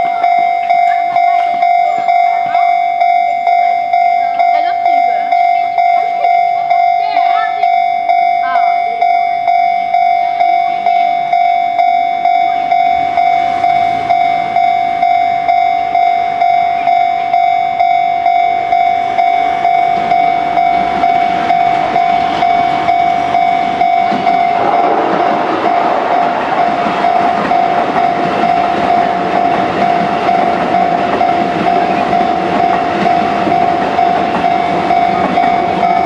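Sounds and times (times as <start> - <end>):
level crossing warning bell: 0.0 - 36.0
train wheels on rails: 0.0 - 36.0.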